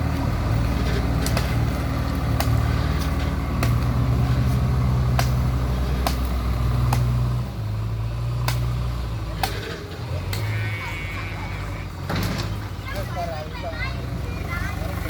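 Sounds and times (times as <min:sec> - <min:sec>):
heavy diesel engines running: 0:00.0 - 0:15.0.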